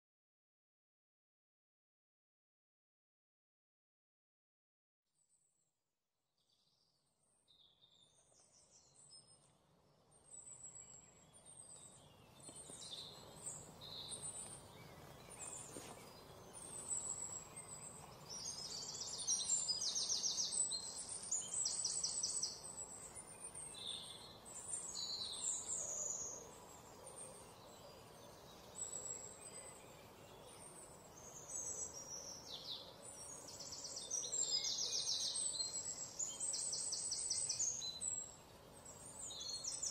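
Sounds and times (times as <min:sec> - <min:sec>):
faint outdoor hiss: 0:06.4 - 0:39.9
small birds chirping: 0:06.4 - 0:39.9.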